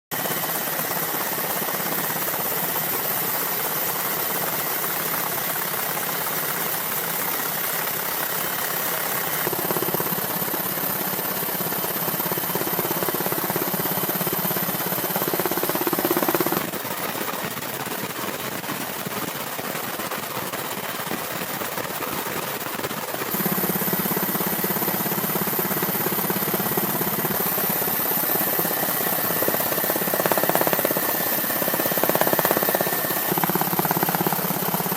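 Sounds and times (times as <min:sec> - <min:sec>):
steady engine noise: 0:00.1 - 0:34.9.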